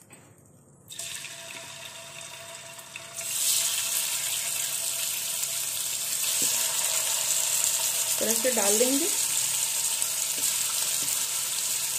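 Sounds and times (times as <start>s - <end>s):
chicken sizzling in hot oil: 0.9s - 11.9s.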